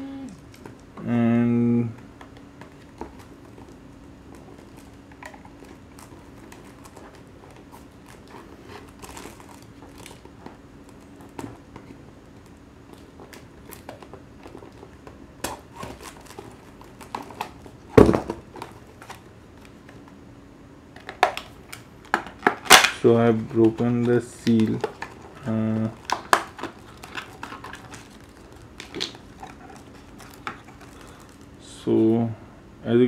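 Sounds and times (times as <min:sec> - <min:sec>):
faint steady hum: 0:00.0 - 0:33.0
plastic and paper packaging crinkling: 0:02.7 - 0:19.9, 0:21.0 - 0:31.7.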